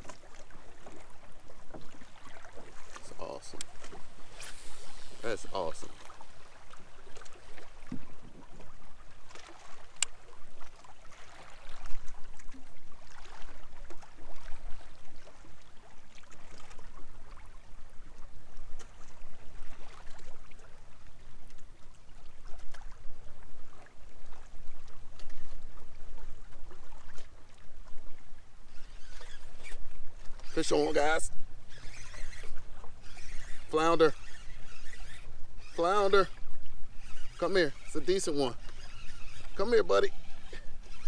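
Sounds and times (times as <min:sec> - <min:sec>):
small waves lapping on a hull: 0:00.0 - 0:41.0.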